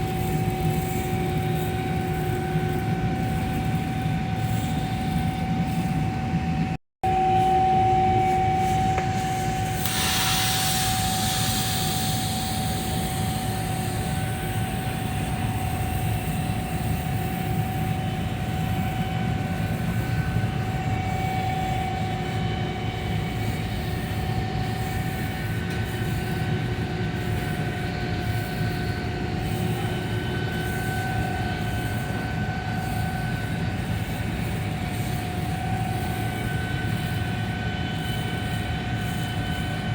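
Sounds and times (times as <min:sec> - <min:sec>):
machine drone with whistling tone: 0:00.0 - 0:39.9.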